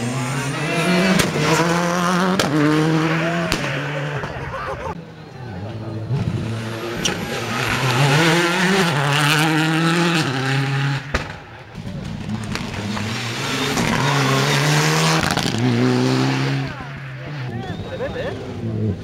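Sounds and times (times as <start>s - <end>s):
rally car engines accelerating: 0.0s - 19.0s.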